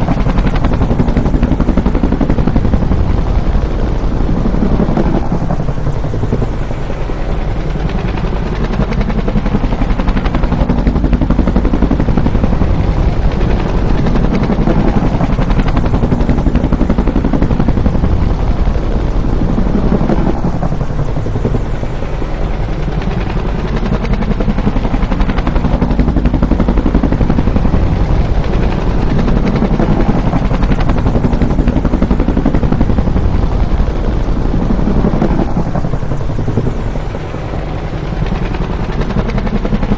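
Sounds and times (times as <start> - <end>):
helicopter rotor thumping: 0.0 - 39.9
helicopter turbine noise: 0.0 - 39.9.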